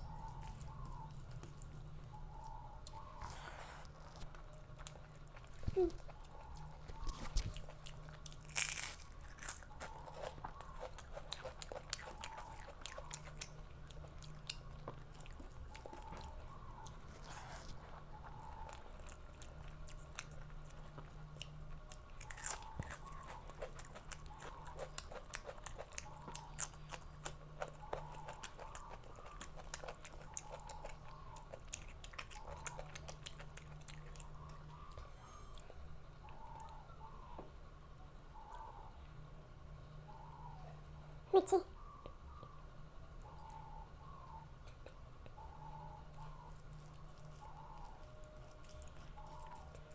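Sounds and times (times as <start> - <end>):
person chewing crunchy food: 0.0 - 36.8, 46.1 - 49.9.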